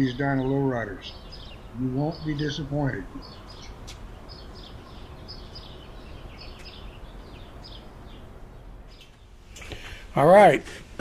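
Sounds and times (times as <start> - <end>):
small bird chirping: 0.0 - 9.8
outdoor background noise: 0.0 - 11.0.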